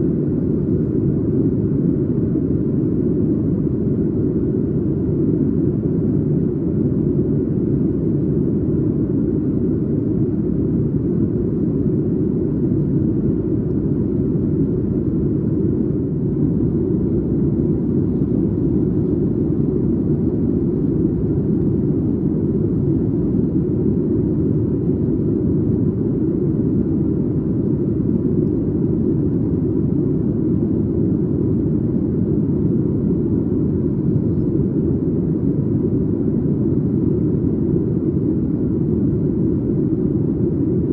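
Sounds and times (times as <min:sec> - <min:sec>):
airplane cabin engine and airflow noise: 0:00.0 - 0:40.9.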